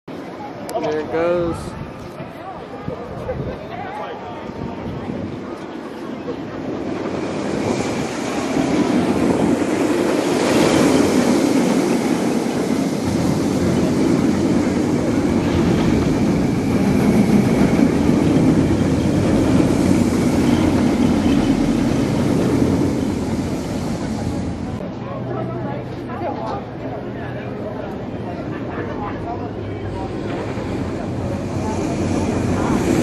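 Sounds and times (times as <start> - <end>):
roller coaster wheels rumbling on rails: 0.1 - 33.0.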